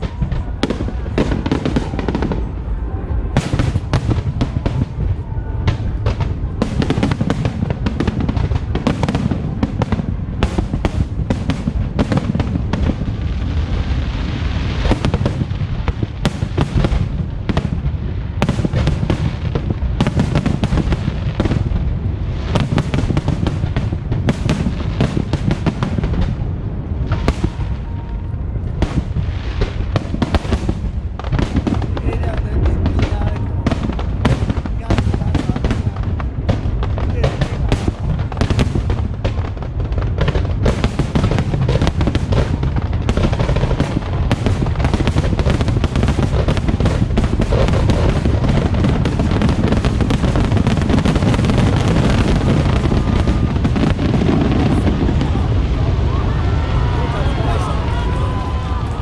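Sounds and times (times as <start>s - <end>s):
fireworks bangs and booms: 0.0s - 59.0s
fireworks crackling: 0.0s - 59.0s.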